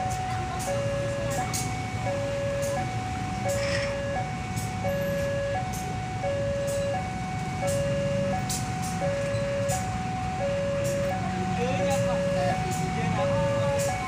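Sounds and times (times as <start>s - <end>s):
diesel locomotive engine rumbling: 0.0s - 14.0s
two-tone level-crossing alarm: 0.0s - 14.0s.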